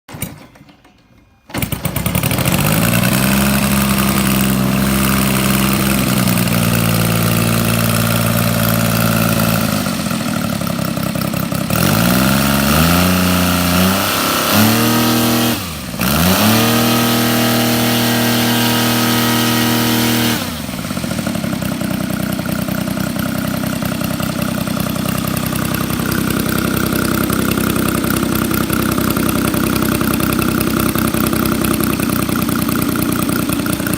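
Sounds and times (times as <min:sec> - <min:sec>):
model aircraft engine revving: 0:01.6 - 0:33.9.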